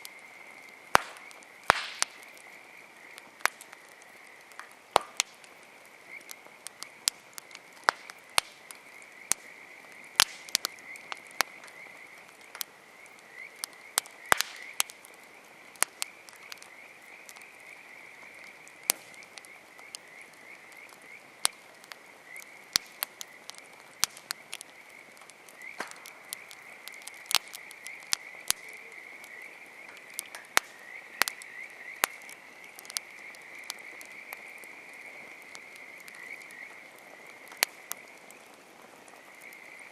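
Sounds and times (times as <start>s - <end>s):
campfire crackling: 0.0s - 39.9s
frogs calling in trills: 0.0s - 39.9s.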